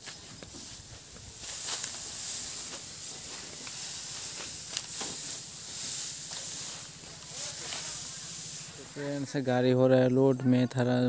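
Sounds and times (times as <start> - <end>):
dry straw rustling and crackling: 0.0 - 9.6.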